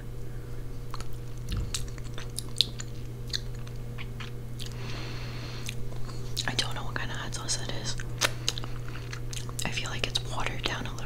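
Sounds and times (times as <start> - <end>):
steady low hum: 0.0 - 11.0
mouth chewing and crunching: 0.9 - 6.8, 8.0 - 11.0.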